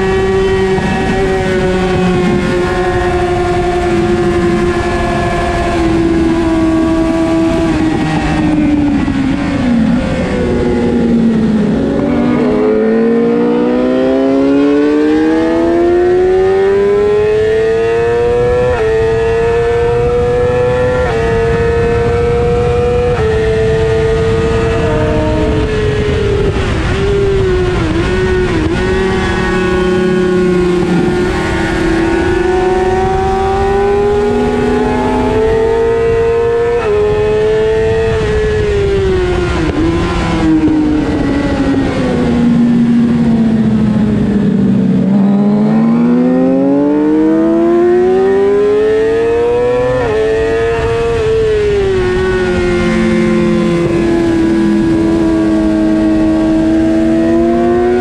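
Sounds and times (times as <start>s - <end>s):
motorcycle engine at speed: 0.0s - 58.0s
wind rush: 0.0s - 58.0s.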